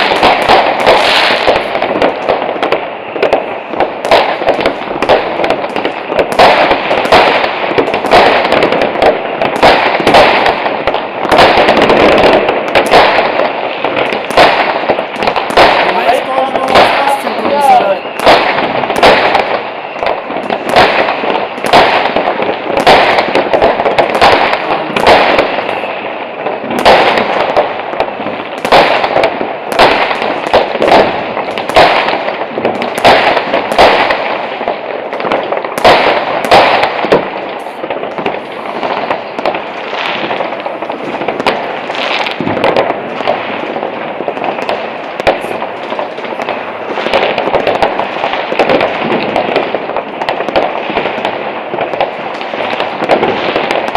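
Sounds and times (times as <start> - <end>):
distant fireworks bangs: 0.0 - 53.9
firecrackers banging: 0.0 - 53.9
fireworks crackling: 0.0 - 53.9
rockets bursting: 0.0 - 53.9.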